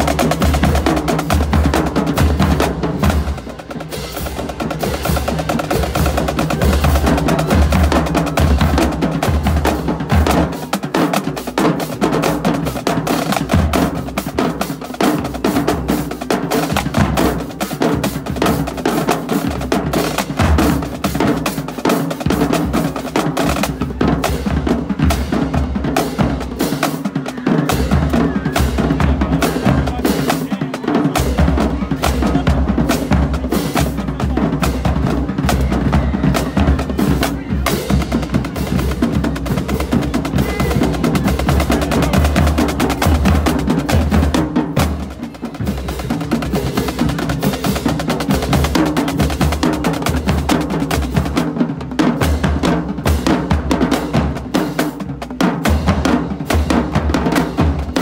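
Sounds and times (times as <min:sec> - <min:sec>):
marching snare drums: 0:00.0 - 0:58.0.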